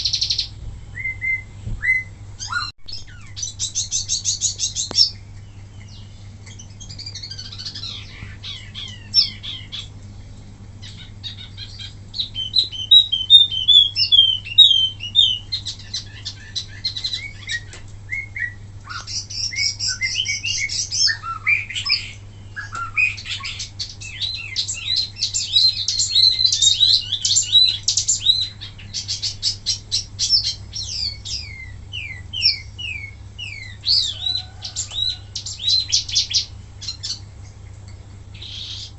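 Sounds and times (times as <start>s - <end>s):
songbird singing high chirps: 0.0s - 9.9s, 10.8s - 37.3s
steady low hum: 0.0s - 38.9s.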